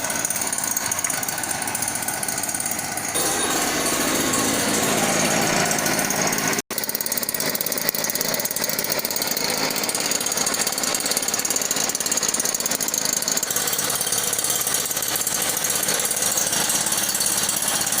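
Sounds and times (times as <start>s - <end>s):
small engine buzzing at high revs: 0.0s - 18.0s.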